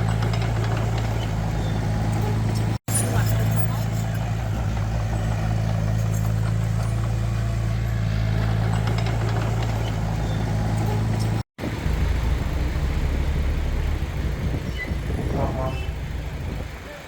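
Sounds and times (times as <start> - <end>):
deep engine rumble: 0.0 - 17.0
diesel engine humming: 0.0 - 17.0.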